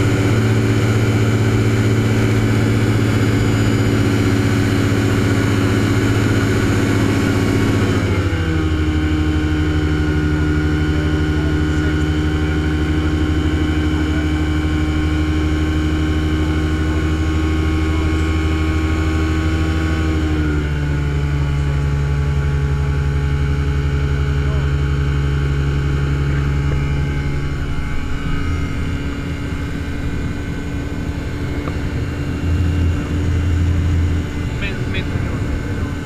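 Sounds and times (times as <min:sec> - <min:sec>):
light aircraft engine drone: 0:00.0 - 0:36.0.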